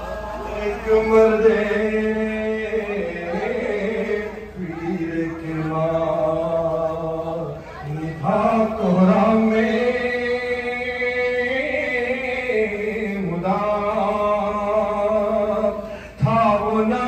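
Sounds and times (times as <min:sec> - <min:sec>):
man chanting into a microphone: 0:00.4 - 0:17.0.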